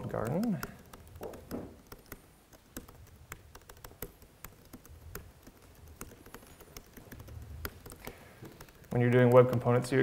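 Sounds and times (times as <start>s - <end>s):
laptop keyboard typing: 0.0s - 10.0s.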